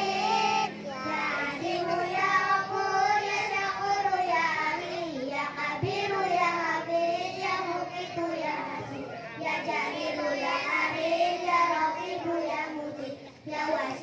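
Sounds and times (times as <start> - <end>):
girls singing in unison: 0.0 - 14.0.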